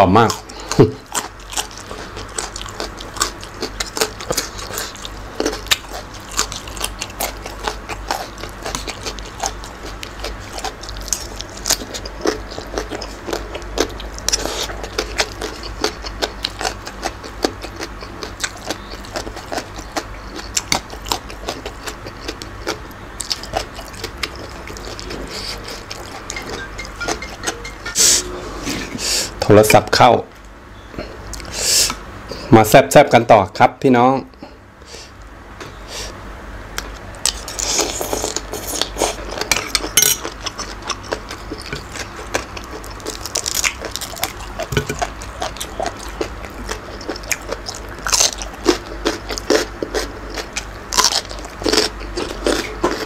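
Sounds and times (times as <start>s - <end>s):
crunchy chewing: 0.2s - 26.4s, 36.8s - 53.0s.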